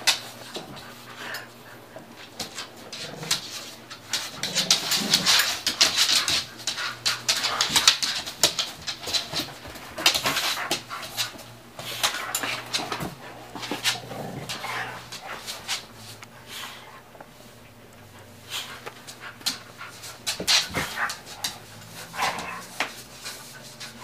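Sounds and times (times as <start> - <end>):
dogs scuffling and mouthing: 0.0 - 24.0.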